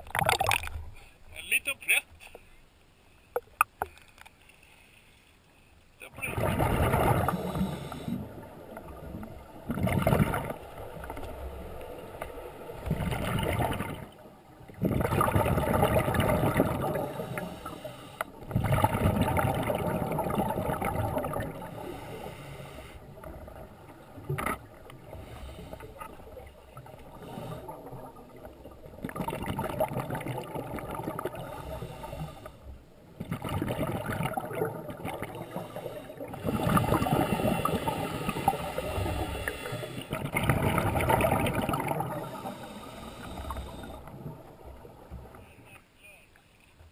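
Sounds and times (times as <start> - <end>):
exhaled bubbles rushing underwater: 0.0 - 0.7, 6.2 - 22.4, 23.0 - 32.4, 33.1 - 45.4.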